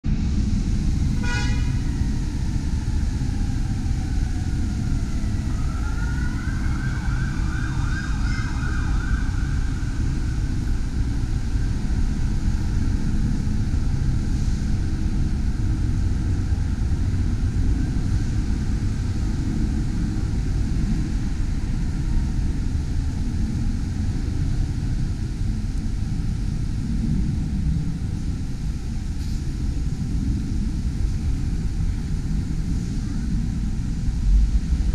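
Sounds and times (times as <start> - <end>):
low rumble: 0.0 - 34.9
emergency vehicle siren: 1.0 - 33.6.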